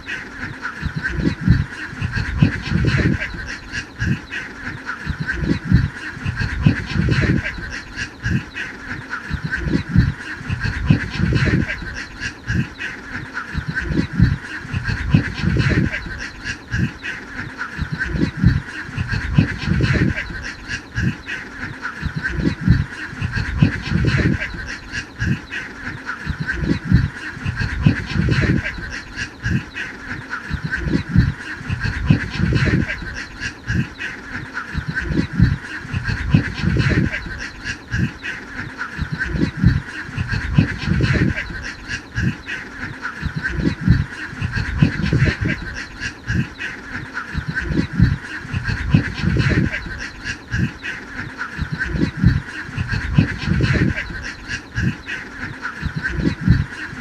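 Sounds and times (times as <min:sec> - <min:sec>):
flock of ducks quacking: 0:00.0 - 0:57.0.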